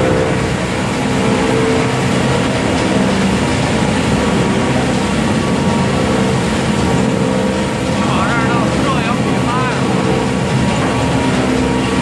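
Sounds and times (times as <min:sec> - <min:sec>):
shredder machine running: 0:00.0 - 0:12.0.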